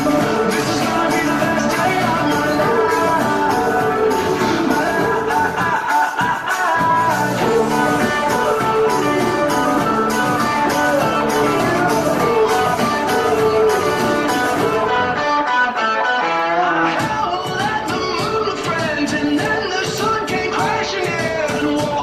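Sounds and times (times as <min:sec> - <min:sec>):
guitar: 0:00.0 - 0:22.0
person singing: 0:00.0 - 0:22.0.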